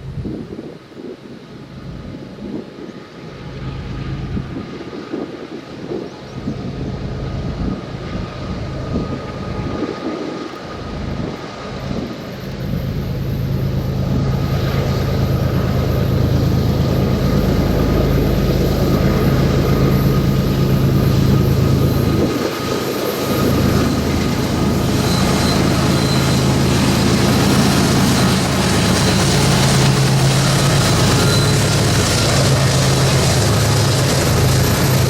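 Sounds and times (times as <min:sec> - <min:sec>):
diesel freight train rumbling: 0:06.1 - 0:35.0.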